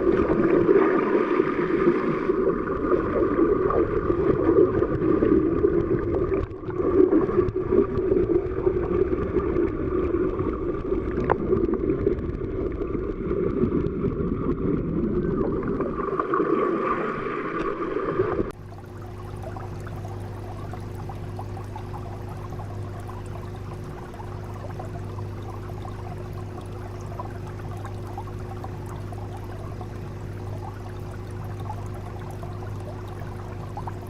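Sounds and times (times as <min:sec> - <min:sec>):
underwater ambience with low hum: 0:00.0 - 0:34.0
underwater rushing and gurgling: 0:00.0 - 0:34.0.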